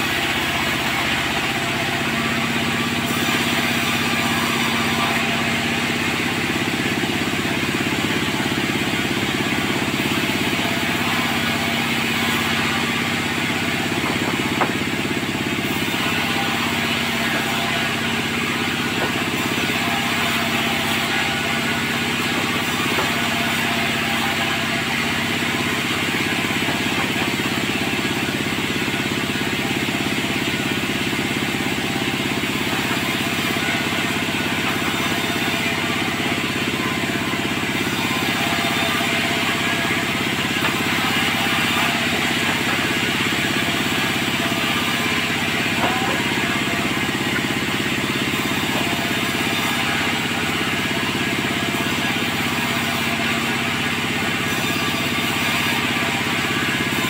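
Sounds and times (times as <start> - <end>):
sawmill machinery droning: 0.0 - 57.0.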